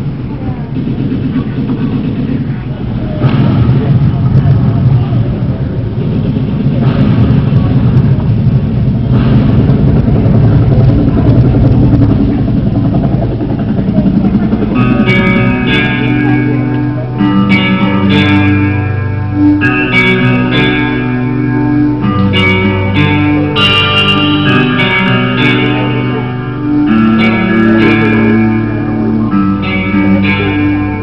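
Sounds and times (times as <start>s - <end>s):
guitar music: 0.0s - 31.0s
rumbling room noise: 0.0s - 31.0s.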